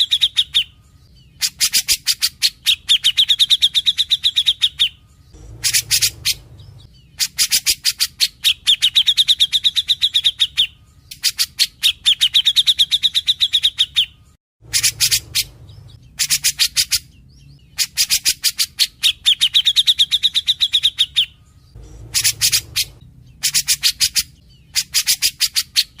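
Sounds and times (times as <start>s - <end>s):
bird singing chattering notes: 0.0s - 26.0s.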